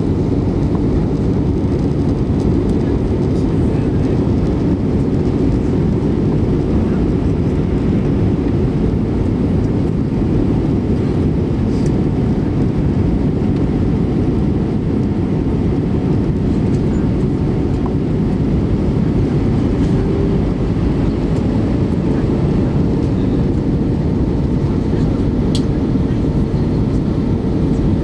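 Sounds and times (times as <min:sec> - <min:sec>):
jet engine roar in cabin: 0:00.0 - 0:28.0.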